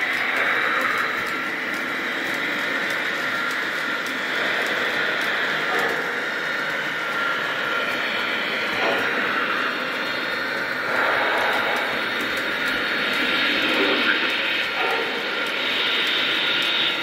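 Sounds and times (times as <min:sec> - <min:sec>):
steady steam hiss: 0:00.0 - 0:17.0.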